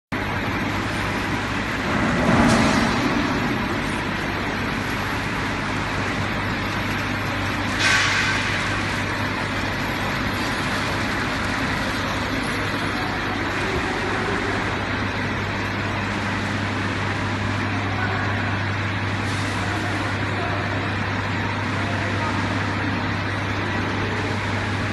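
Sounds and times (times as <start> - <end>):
machine whirring over low hum: 0.1 - 24.9.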